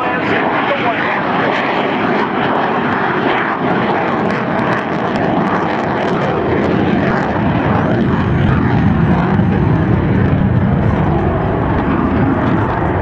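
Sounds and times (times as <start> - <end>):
jet engines in afterburner: 0.0 - 13.0.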